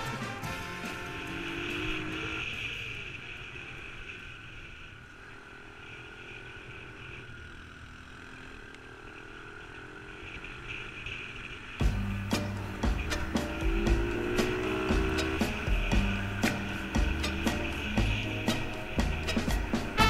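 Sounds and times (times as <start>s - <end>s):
small motorbike engine running: 0.0s - 20.0s.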